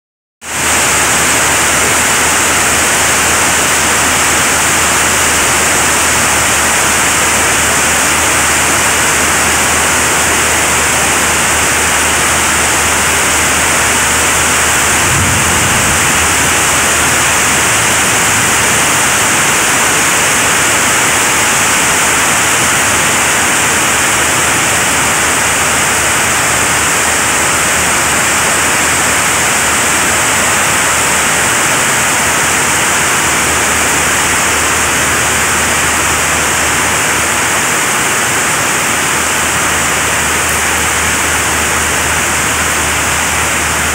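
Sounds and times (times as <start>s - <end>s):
heavy rain on a metal roof: 0.4s - 43.9s.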